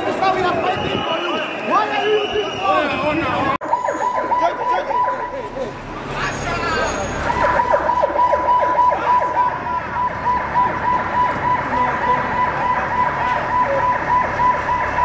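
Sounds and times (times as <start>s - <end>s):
police siren yelping: 0.2s - 5.5s, 6.9s - 15.0s
pulsing siren tone: 0.5s - 5.5s, 6.8s - 15.0s.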